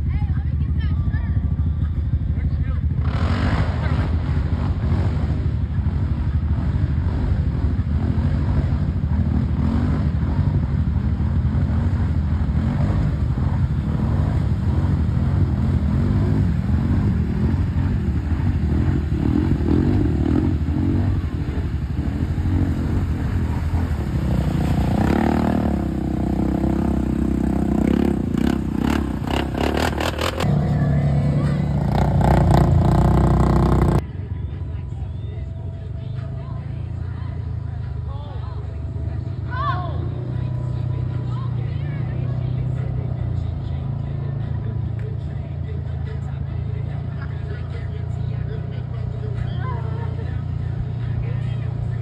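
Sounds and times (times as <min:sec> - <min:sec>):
engine churning through water: 0:00.0 - 0:52.0.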